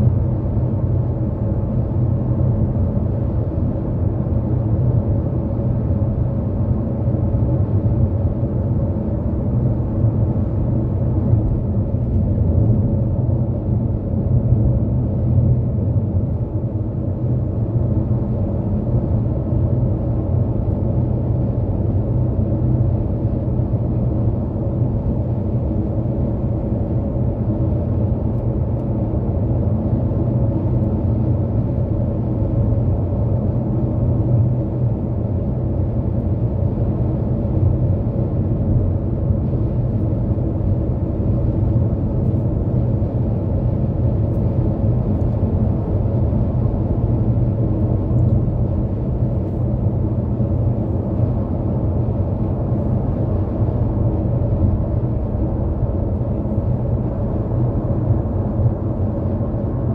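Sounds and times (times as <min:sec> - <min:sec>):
car cruising on highway: 0:00.0 - 0:59.9.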